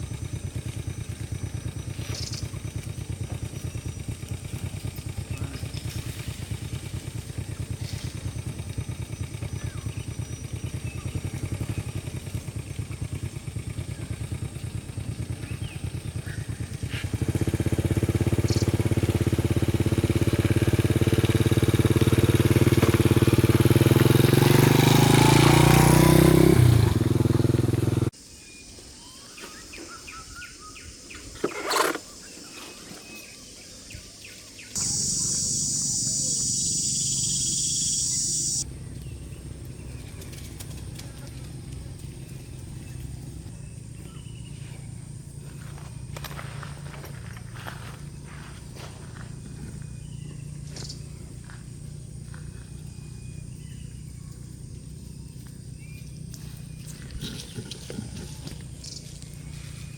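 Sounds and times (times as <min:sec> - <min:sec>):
small engine running: 0:00.0 - 0:28.2, 0:34.0 - 0:59.9
outdoor background noise: 0:00.0 - 0:59.9.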